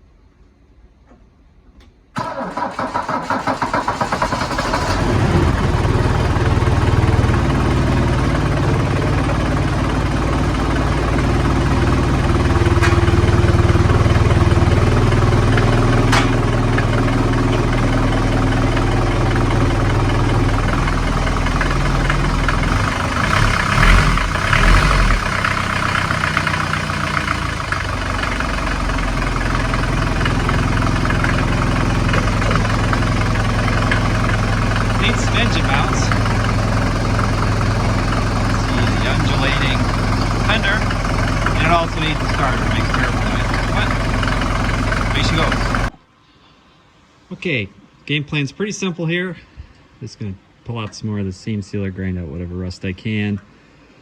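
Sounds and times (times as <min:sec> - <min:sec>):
diesel engine idling: 0:02.2 - 0:46.0
starter motor cranking: 0:02.2 - 0:46.0.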